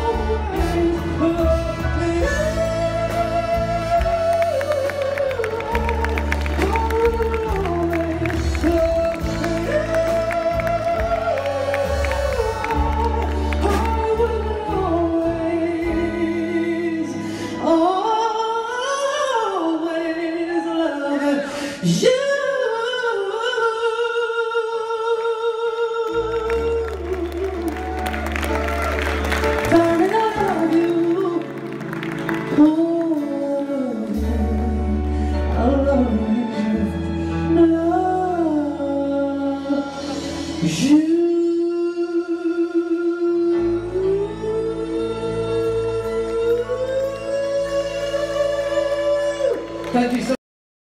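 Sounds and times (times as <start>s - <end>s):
person singing with vibrato: 0.0s - 50.4s.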